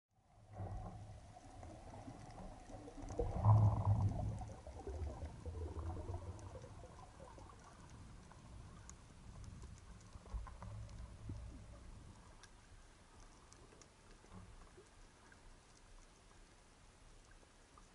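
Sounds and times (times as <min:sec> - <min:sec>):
underwater rumbling water: 0:00.1 - 0:17.9
faint clicks: 0:00.5 - 0:17.9.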